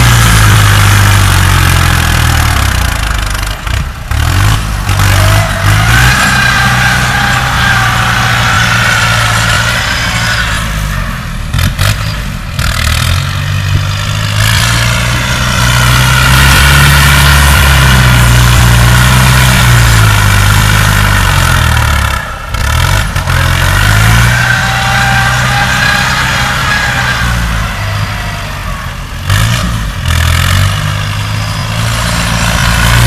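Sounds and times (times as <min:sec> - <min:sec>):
heavy machinery diesel engine: 0:00.0 - 0:33.0.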